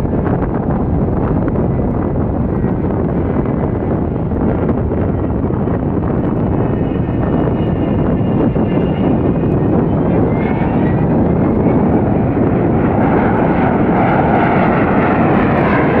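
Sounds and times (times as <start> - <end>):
jet engines rumbling: 0.0 - 16.0
wind buffeting microphone: 0.0 - 16.0.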